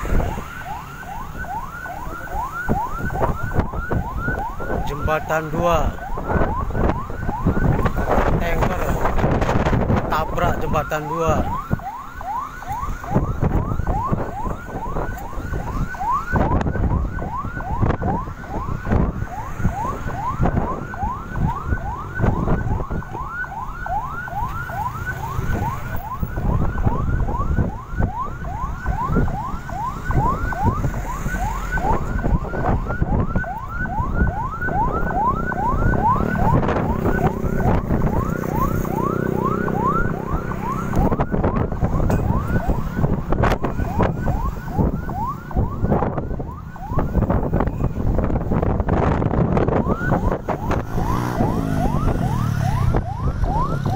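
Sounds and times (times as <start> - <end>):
siren wailing: 0.0 - 53.9.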